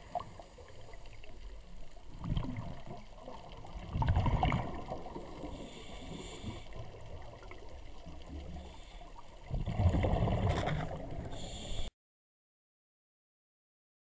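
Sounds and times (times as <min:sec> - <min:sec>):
quiet hissing and gurgling: 0:00.0 - 0:11.9.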